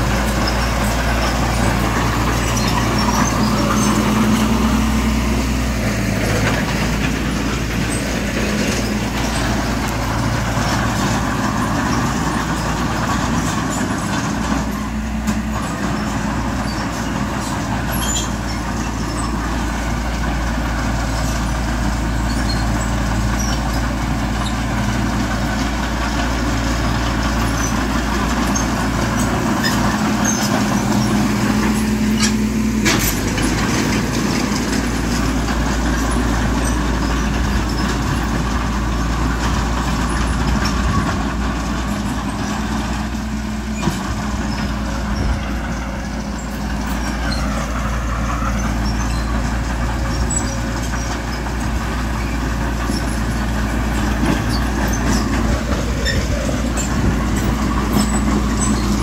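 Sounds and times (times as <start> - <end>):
diesel machinery engines: 0.0 - 59.0.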